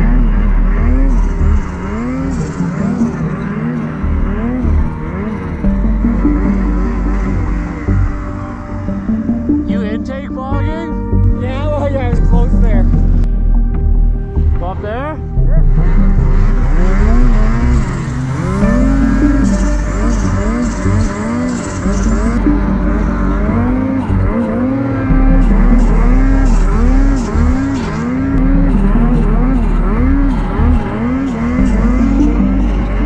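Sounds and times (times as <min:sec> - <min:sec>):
snowmobile engine revving: 0:00.0 - 0:13.3, 0:14.0 - 0:33.0.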